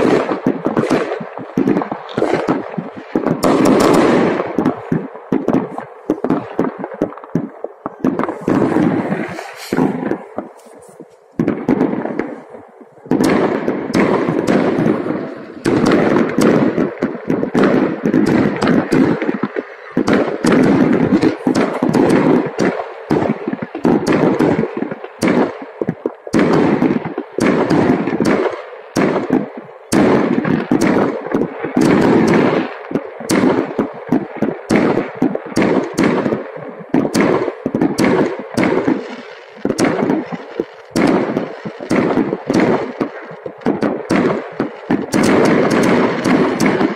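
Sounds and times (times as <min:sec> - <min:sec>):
fireworks banging and crackling: 0:00.0 - 0:46.9.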